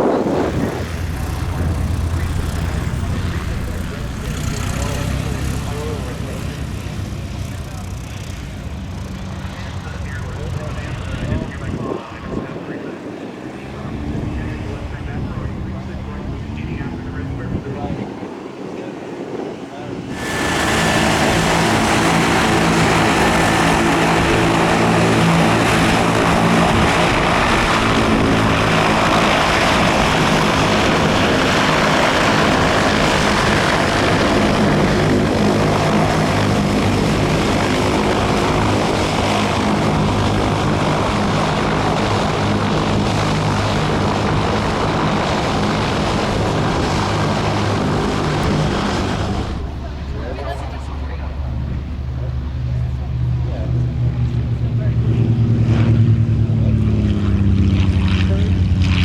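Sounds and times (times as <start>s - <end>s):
propeller airplane engine droning: 0.0s - 59.0s.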